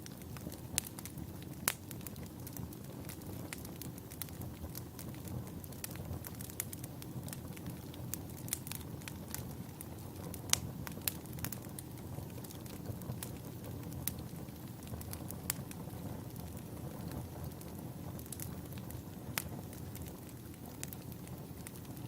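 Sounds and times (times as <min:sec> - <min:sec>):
burning wood crackling and popping: 0:00.0 - 0:22.0
fire flames rumbling: 0:00.0 - 0:22.0.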